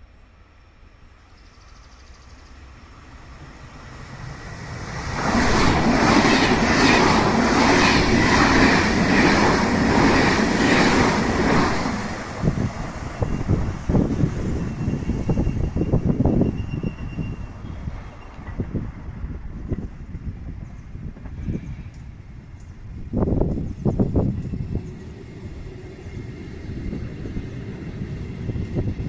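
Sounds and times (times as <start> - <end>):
train wheels rushing on rails: 0.2 - 29.0
wind buffeting microphone: 3.6 - 29.0.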